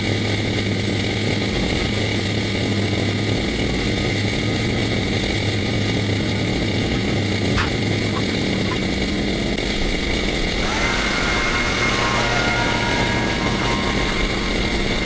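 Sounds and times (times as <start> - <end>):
chainsaw running: 0.2 - 15.0.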